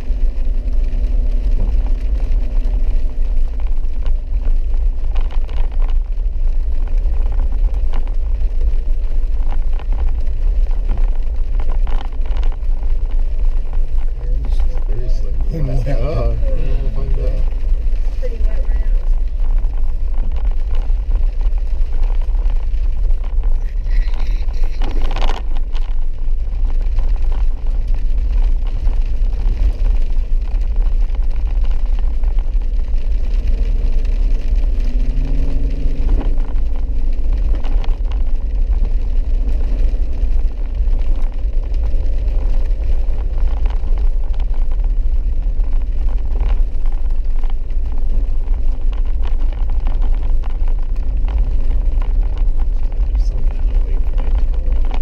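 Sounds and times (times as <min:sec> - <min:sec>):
vehicle rumbling on dirt road: 0:00.0 - 0:55.0.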